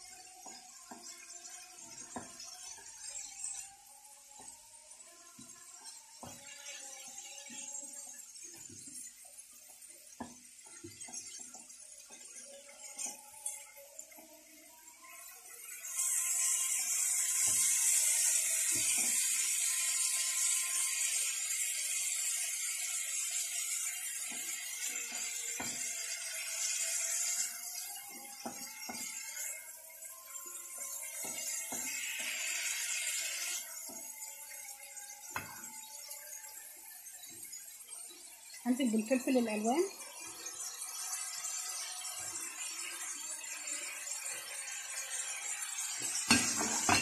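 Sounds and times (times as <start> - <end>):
spatula scraping a pan: 0.0 - 14.3, 14.9 - 47.0
loud sizzle of frying: 0.0 - 47.0.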